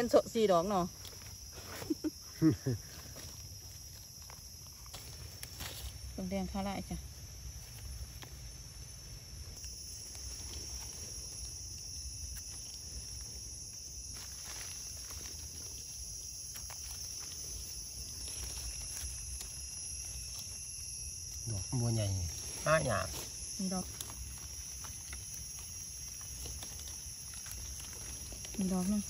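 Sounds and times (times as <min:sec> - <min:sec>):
insects droning: 0:00.0 - 0:29.0
rustling leaf litter: 0:00.6 - 0:29.0.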